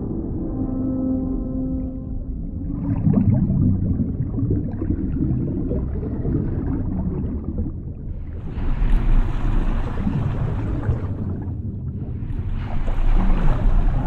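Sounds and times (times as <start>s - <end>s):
low rumbling water churn: 0.0s - 14.0s.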